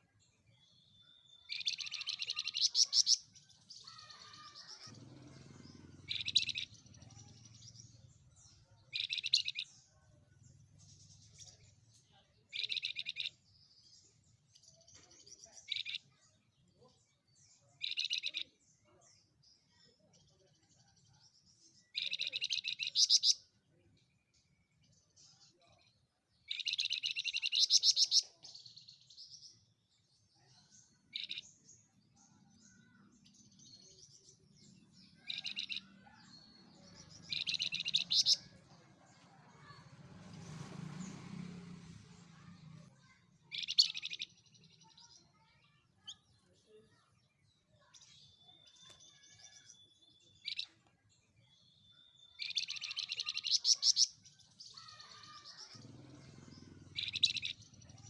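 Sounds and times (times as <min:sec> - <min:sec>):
bird chirps: 0:00.0 - 0:39.8, 0:42.4 - 0:58.0.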